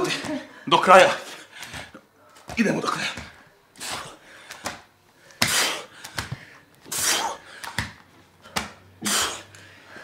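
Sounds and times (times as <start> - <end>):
heavy breathing exhalations: 0.0 - 10.0.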